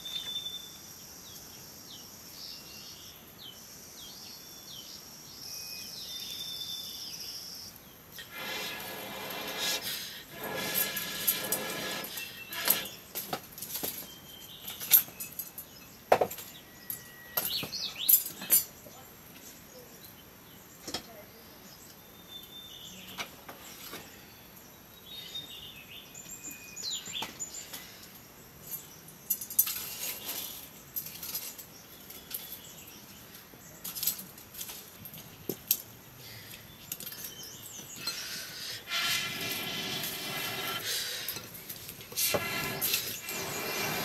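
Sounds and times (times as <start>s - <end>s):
birds chirping: 1.2s - 34.2s, 35.4s - 44.0s.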